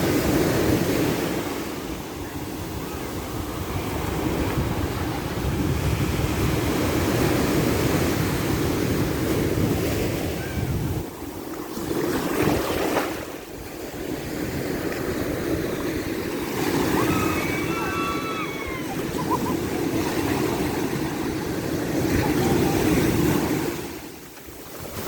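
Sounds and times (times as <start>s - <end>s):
ocean surf breaking: 0.0s - 25.0s
wind rumbling on microphone: 0.0s - 25.0s.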